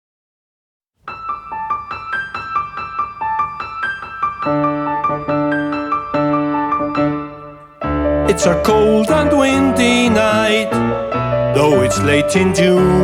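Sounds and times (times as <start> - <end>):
piano repeated notes: 1.1 - 13.0.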